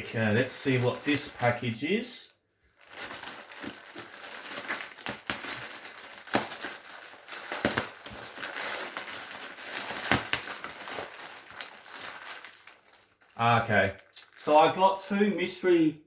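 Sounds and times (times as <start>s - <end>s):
packaging crackles and snaps: 0.0s - 1.7s, 2.8s - 15.5s
packaging crinkling and rustling: 0.0s - 1.8s, 2.7s - 15.5s.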